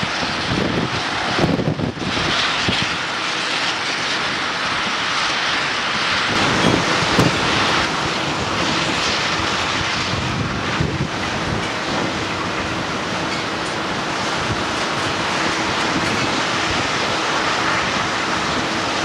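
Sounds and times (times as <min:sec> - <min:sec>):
diesel machinery running: 0:00.0 - 0:19.0.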